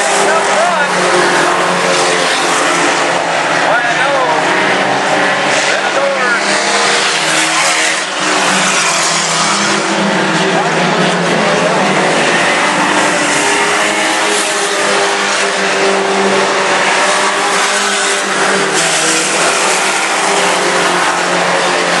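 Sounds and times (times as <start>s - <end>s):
racing truck engines: 0.0s - 22.0s.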